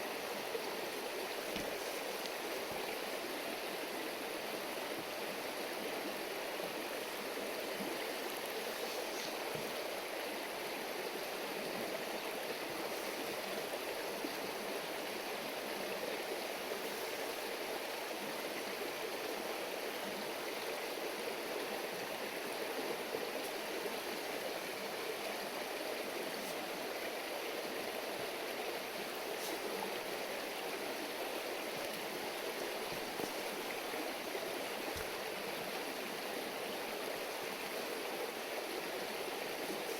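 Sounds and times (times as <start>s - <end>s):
river water burbling: 0.0s - 39.9s.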